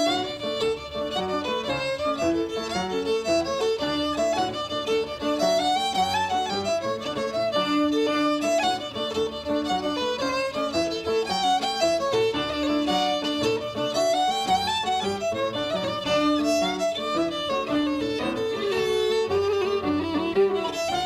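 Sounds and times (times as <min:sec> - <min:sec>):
lively fiddle tune: 0:00.0 - 0:21.0.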